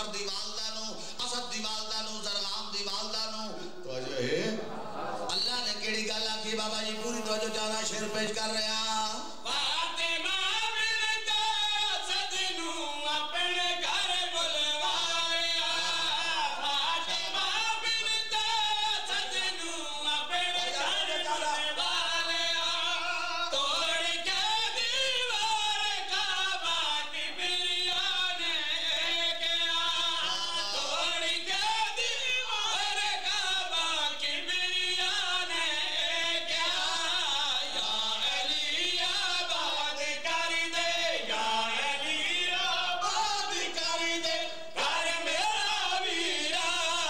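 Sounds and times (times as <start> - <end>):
men singing a mourning chant: 0.0 - 47.0.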